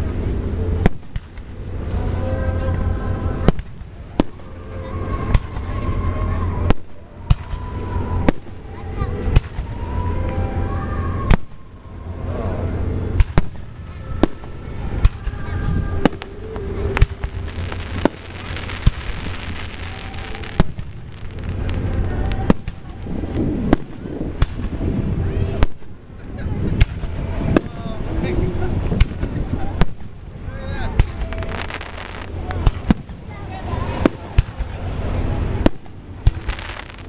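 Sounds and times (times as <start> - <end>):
fireworks bursting with bangs: 0.0 - 10.2, 11.1 - 11.8, 12.8 - 37.0
crowd voices: 0.0 - 37.0.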